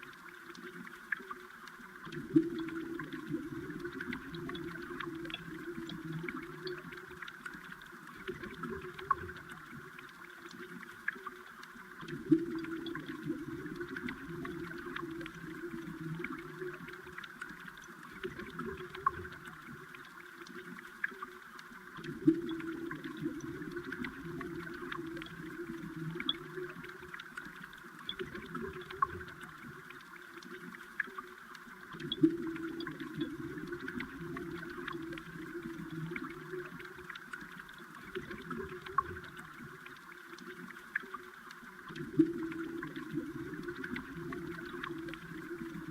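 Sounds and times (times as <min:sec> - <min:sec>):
underwater flowing water gurgling: 0:00.0 - 0:45.9.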